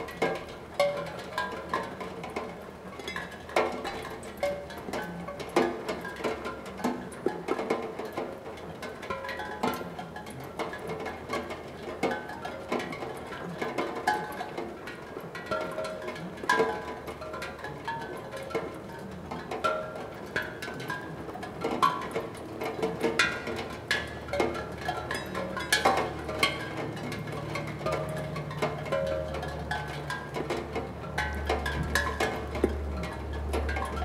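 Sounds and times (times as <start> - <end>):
raindrops clicking on metal: 0.0 - 34.0
raindrops ringing tongue drum notes: 0.0 - 34.0.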